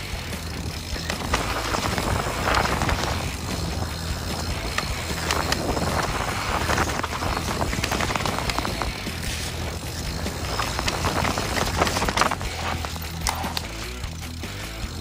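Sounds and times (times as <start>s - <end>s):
bike clicking and rattling: 0.0s - 15.0s
bike tyres rolling on dirt: 0.0s - 15.0s
wind on microphone: 0.6s - 13.6s.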